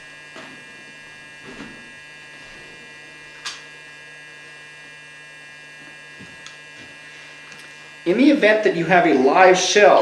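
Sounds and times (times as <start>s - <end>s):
electrical hum with high whine: 0.0s - 10.0s.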